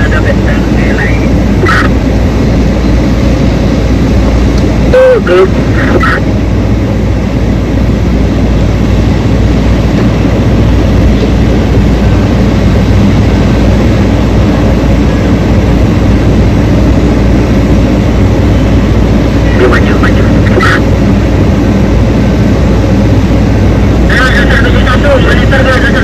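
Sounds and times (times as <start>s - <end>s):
heavy diesel machinery droning: 0.0s - 26.0s.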